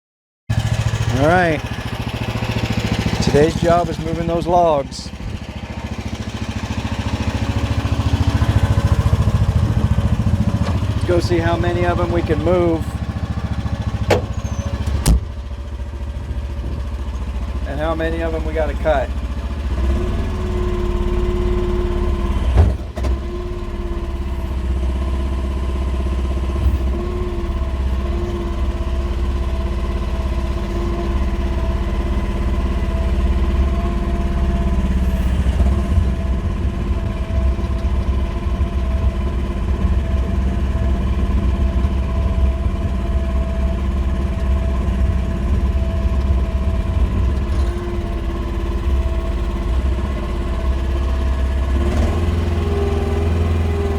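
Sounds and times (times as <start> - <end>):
diesel engine running: 0.5 - 53.9.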